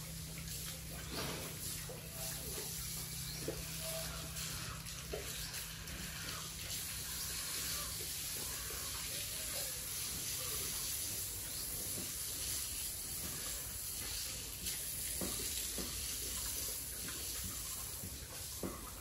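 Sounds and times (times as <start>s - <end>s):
piglets feeding: 0.0s - 19.0s.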